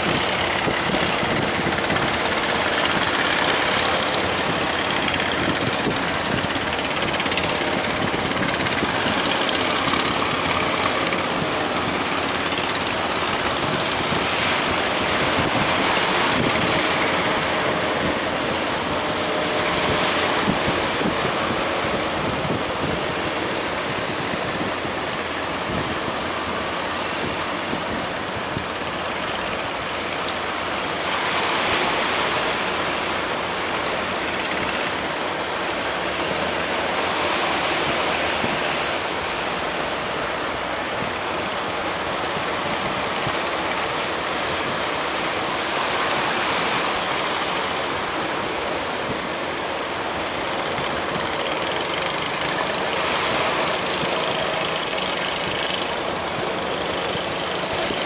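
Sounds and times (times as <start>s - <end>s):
large waves breaking: 0.0s - 58.0s.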